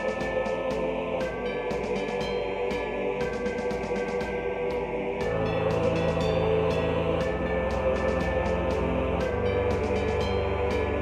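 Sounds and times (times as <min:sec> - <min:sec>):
slow held chords: 0:00.0 - 0:11.0.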